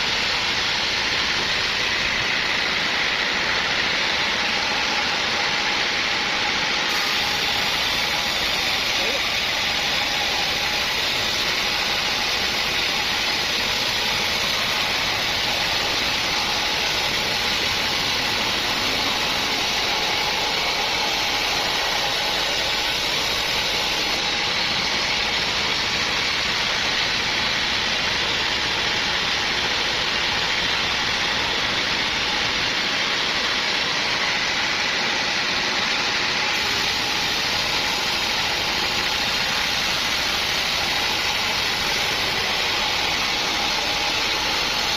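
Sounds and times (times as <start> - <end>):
high hiss: 0.0 - 44.9
sawmill machinery running: 0.0 - 44.9.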